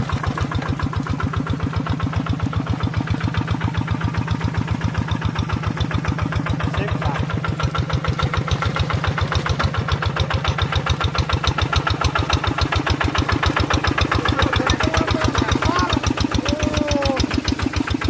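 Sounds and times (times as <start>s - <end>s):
tractor engine chugging: 0.0s - 18.0s.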